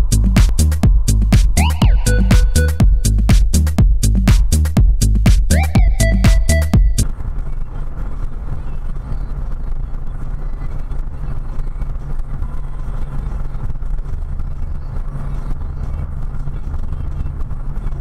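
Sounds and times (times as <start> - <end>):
car engine and tyre noise: 0.0 - 18.0.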